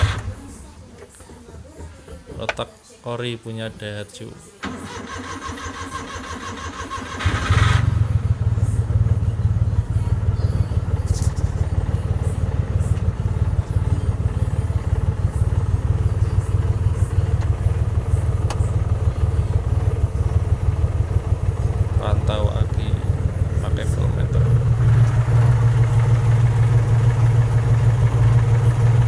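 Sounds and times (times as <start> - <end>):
engine cranking and idling: 0.0 - 2.6, 4.6 - 29.0.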